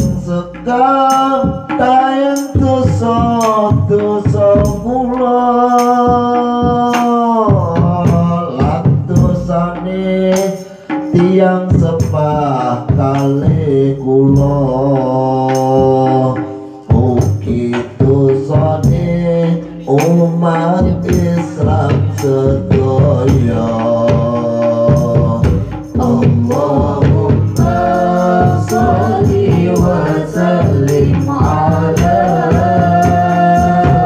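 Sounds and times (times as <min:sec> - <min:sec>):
frame drums: 0:00.0 - 0:34.0
hand drum: 0:00.0 - 0:34.0
person singing through microphone: 0:00.0 - 0:34.0.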